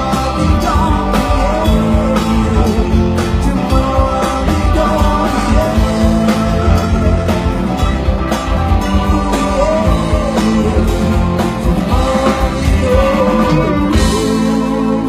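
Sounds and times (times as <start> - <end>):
drums: 0.0 - 15.0
person singing: 0.0 - 15.0.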